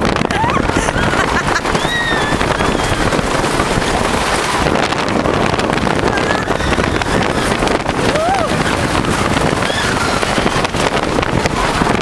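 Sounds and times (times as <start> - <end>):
roller coaster rumbling and rattling: 0.0 - 12.0
wind buffeting microphone: 0.0 - 12.0.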